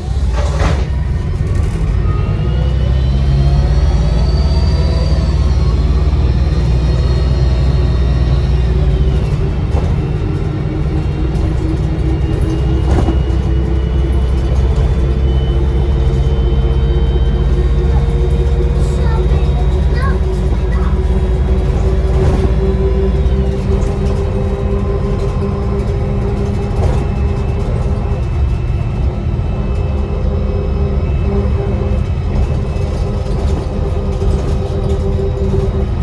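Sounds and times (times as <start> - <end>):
bus diesel engine under load: 0.0 - 36.0.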